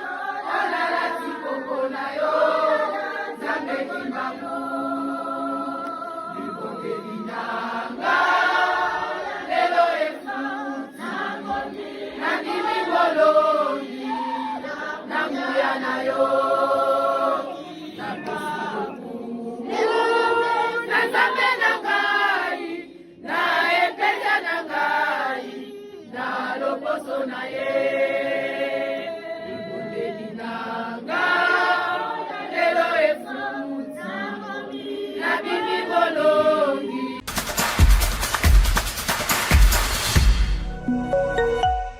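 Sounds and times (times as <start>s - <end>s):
choir singing: 0.0s - 37.3s, 39.9s - 41.9s.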